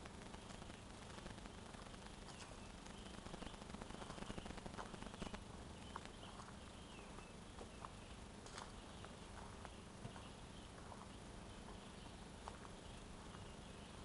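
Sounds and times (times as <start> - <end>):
footsteps on dirt trail: 0.0 - 14.0
faint bird chirps: 0.2 - 14.0.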